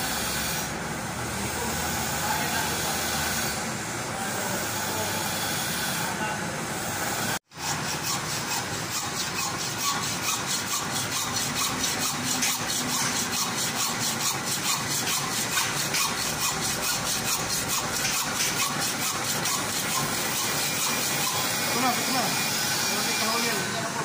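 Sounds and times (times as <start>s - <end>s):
lathe tool scraping metal: 0.0s - 3.7s, 4.3s - 6.2s, 6.9s - 24.0s.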